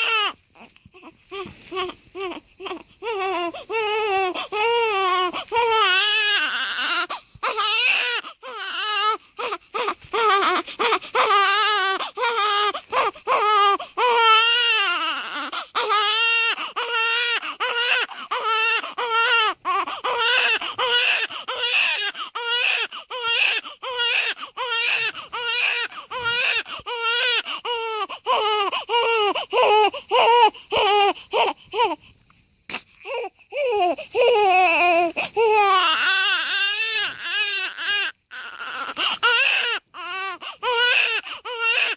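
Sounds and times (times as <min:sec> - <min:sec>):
newborn baby crying: 0:00.0 - 0:32.0, 0:32.7 - 0:41.9.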